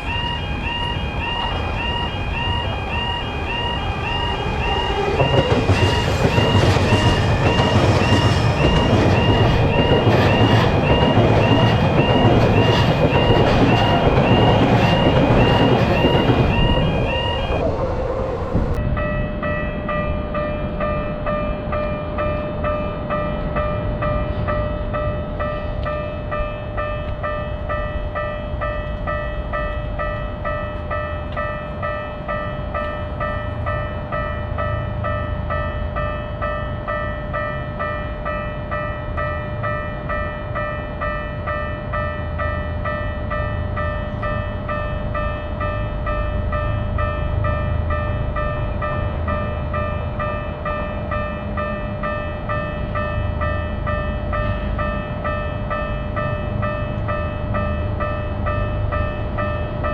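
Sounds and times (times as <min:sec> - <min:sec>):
railroad crossing bell ringing: 0:00.0 - 0:59.9
train rumbling past: 0:00.0 - 0:59.9.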